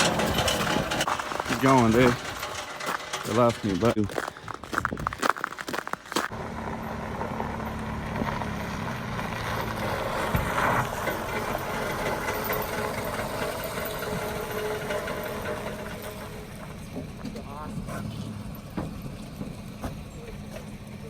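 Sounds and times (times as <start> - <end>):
vehicle engine running under load: 0.0 - 4.8, 5.7 - 21.0.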